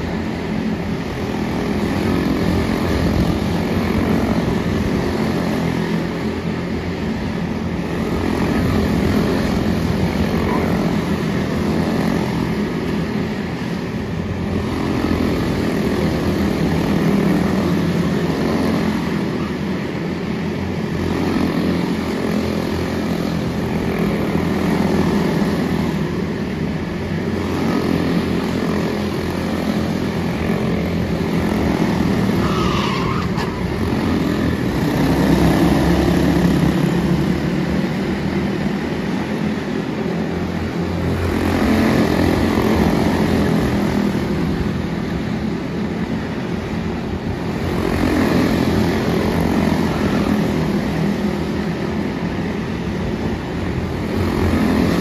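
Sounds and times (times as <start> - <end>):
small race car engines buzzing: 0.0 - 55.0.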